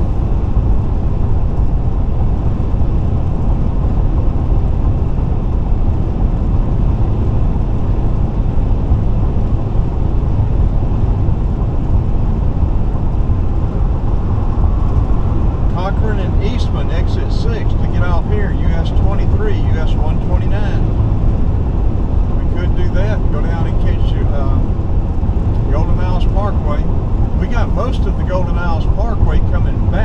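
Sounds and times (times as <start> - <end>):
car interior road rumble: 0.0 - 30.0.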